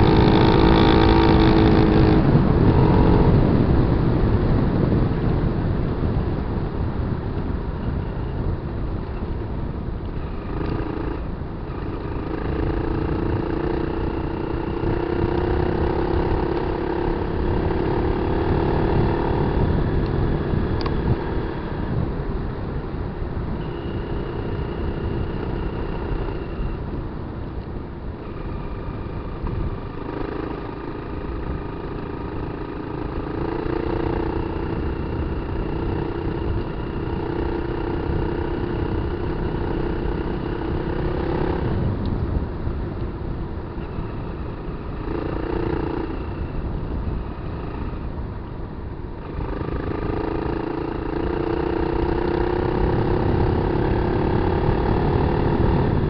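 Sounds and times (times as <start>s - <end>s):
motorcycle engine revving: 0.0s - 56.0s
steady rushing noise: 0.0s - 56.0s.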